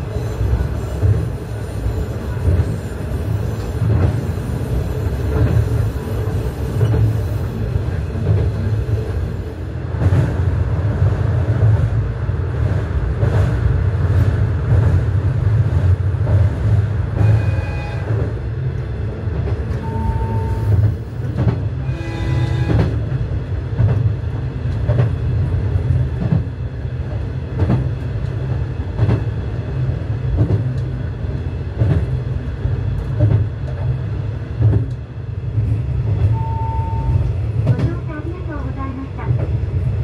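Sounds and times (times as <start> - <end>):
railcar engine drone: 0.0 - 40.0.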